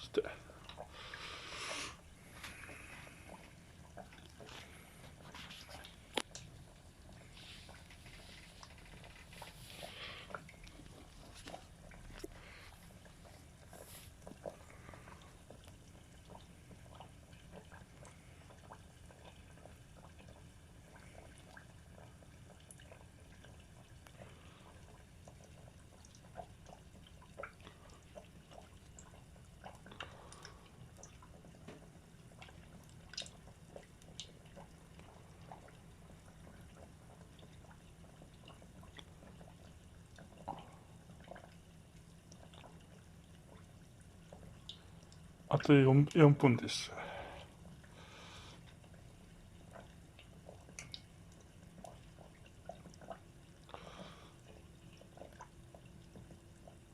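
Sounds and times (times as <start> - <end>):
low steady hum: 0.0 - 56.9
oil crackling and popping: 2.3 - 41.6, 47.3 - 56.9.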